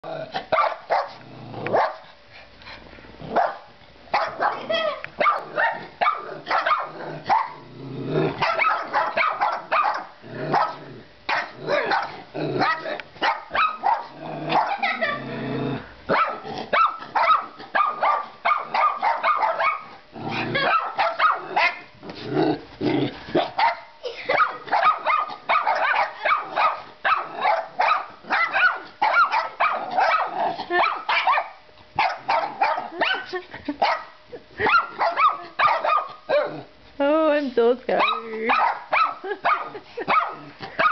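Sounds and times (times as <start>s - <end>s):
small dogs barking: 0.4s - 2.1s, 3.3s - 7.6s, 8.3s - 15.2s, 16.1s - 21.9s, 23.4s - 36.8s, 37.9s - 40.9s.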